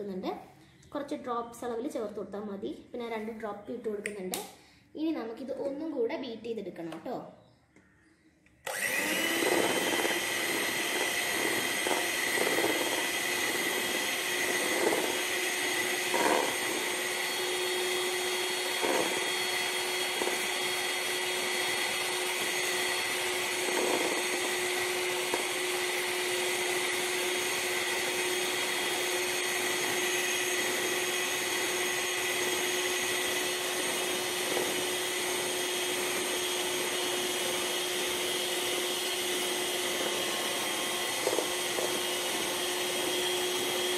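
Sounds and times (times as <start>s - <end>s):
electric beater whipping cream: 8.6s - 43.9s.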